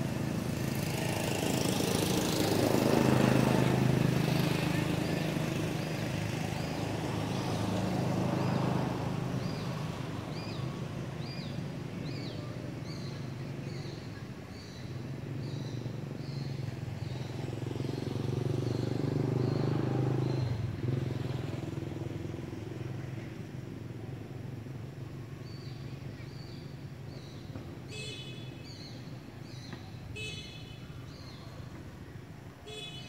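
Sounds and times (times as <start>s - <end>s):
traffic passing: 0.0s - 33.0s.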